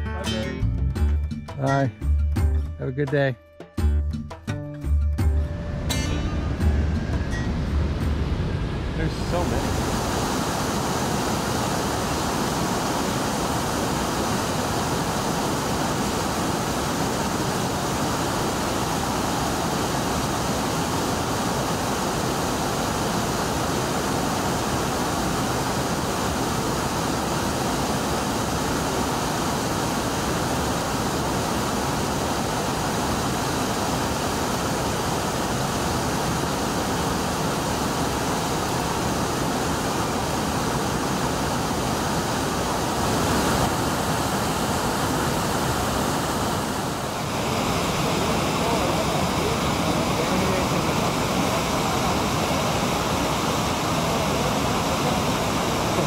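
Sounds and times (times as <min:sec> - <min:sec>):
waterfall rushing: 0:05.4 - 0:56.0.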